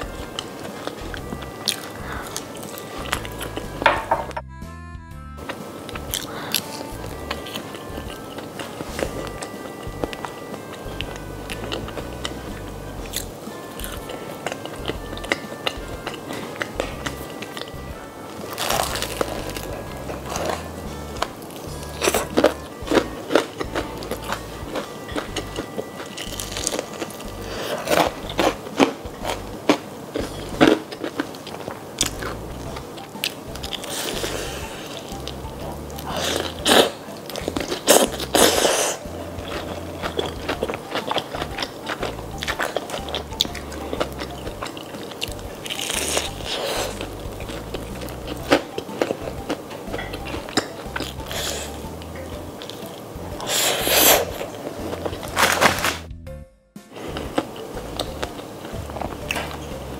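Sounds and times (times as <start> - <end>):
crunchy chewing: 0.0 - 4.0, 5.4 - 56.1, 57.0 - 59.9.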